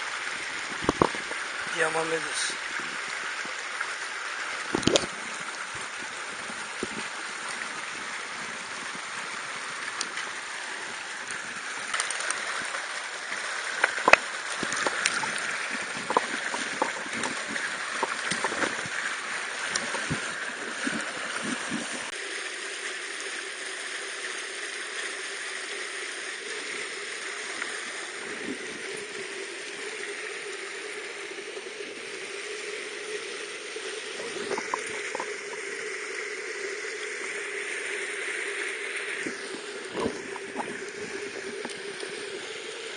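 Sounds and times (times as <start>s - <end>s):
stream rushing over rocks: 0.0s - 33.3s, 34.1s - 42.9s.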